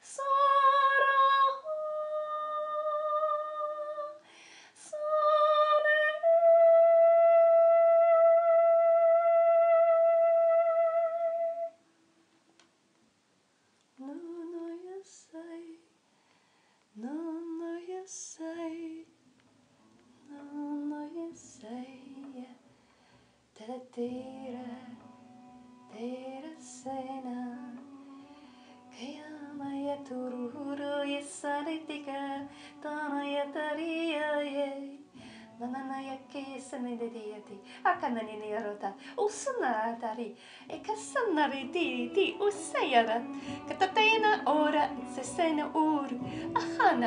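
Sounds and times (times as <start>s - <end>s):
woman singing wordless phrases: 0.0s - 4.2s, 4.8s - 11.6s, 14.0s - 15.9s, 17.0s - 19.1s, 20.3s - 22.6s, 23.6s - 25.1s, 25.9s - 28.1s, 28.8s - 47.0s.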